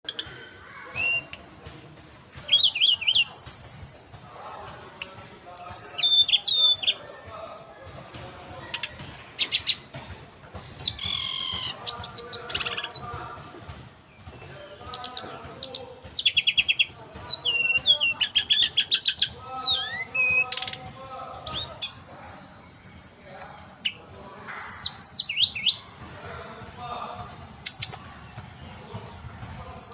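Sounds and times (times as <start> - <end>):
songbird singing: 0.0 - 4.0, 4.9 - 26.0, 26.8 - 29.9.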